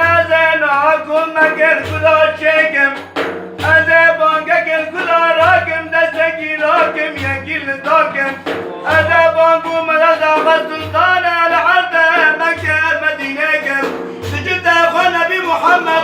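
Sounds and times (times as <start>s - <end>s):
man singing praise song: 0.0s - 16.0s.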